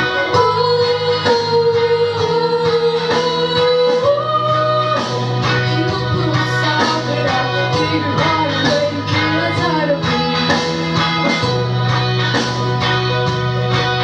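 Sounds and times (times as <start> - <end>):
woman singing: 0.0 - 11.6
guitar accompaniment: 0.0 - 14.0.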